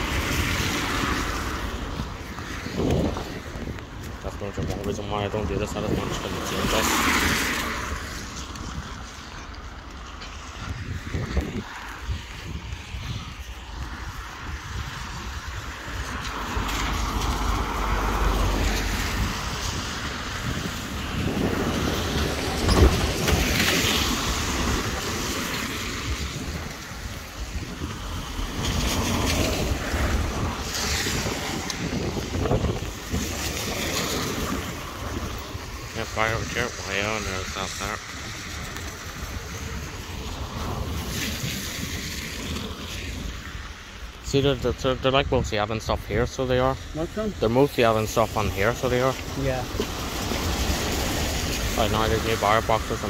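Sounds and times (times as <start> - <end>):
cars passing on wet road: 0.0 - 53.0
wind rumbling on microphone: 0.0 - 53.0.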